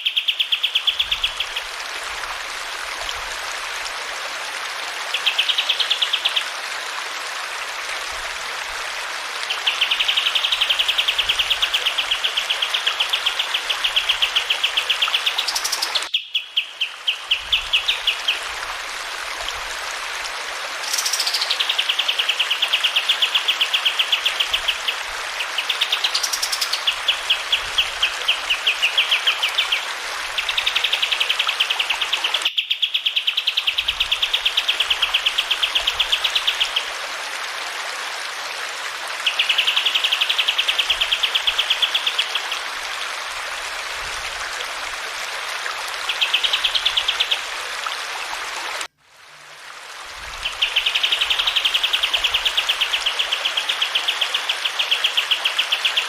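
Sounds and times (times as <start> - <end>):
running water: 0.1 - 32.5, 33.2 - 56.0.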